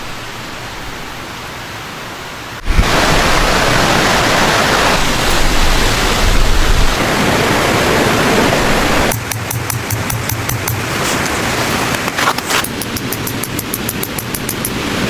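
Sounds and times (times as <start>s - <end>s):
rushing wind: 2.2s - 15.0s.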